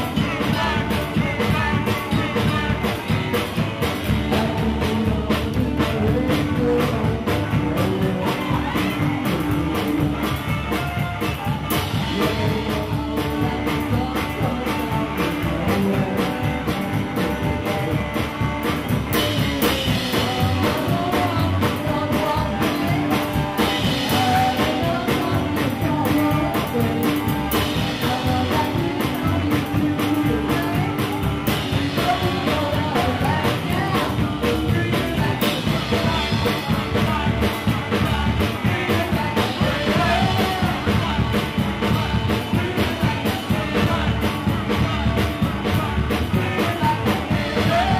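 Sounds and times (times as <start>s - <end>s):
woman singing: 0.0s - 18.3s, 19.2s - 47.9s
rock band playing: 0.0s - 47.9s.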